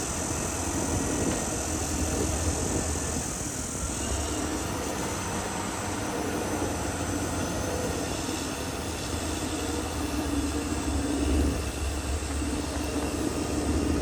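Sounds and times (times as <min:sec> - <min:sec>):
bulldozer diesel engine running: 0:00.0 - 0:14.0
steel tracks clanking: 0:00.0 - 0:14.0.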